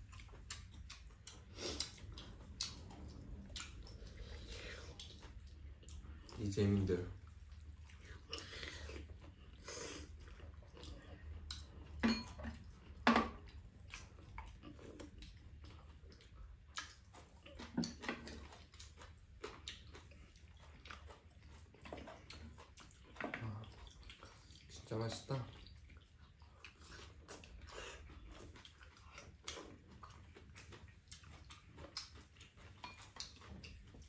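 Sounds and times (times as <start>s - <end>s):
people chewing: 0.0s - 34.0s.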